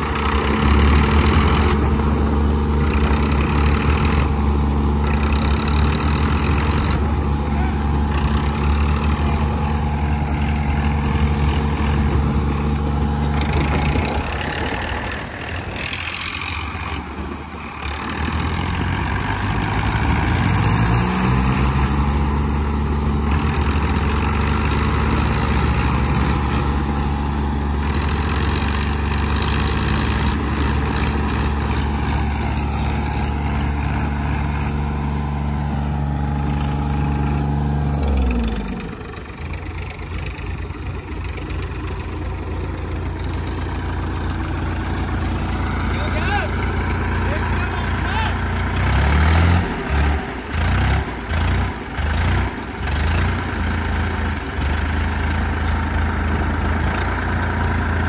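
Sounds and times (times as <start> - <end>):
tractor diesel engines under load: 0.0 - 58.0.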